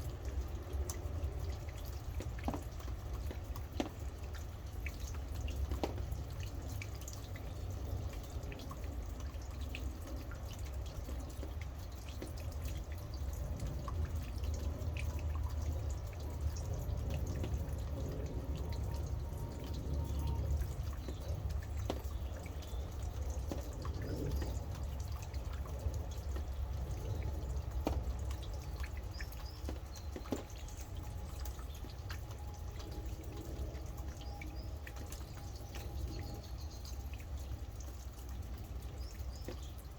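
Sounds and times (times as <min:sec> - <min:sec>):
rain drops dripping: 0:00.0 - 0:39.9.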